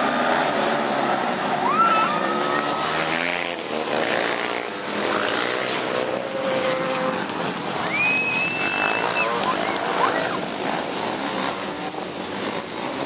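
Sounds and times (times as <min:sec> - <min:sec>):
racing engines at high revs: 0:00.0 - 0:13.0.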